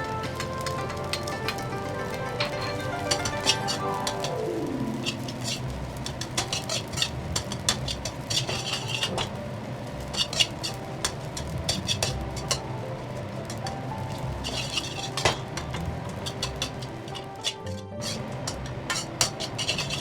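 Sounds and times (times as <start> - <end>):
metal spatula scraping a wok: 0.0 - 9.4, 10.0 - 20.0.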